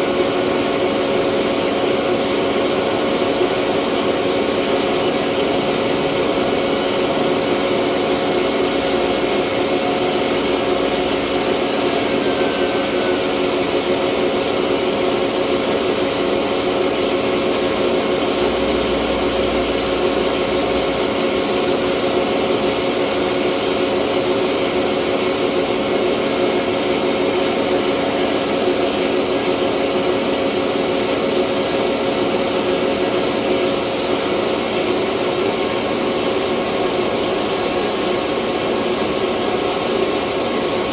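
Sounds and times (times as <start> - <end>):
rice mill machine drone: 0.0 - 40.9.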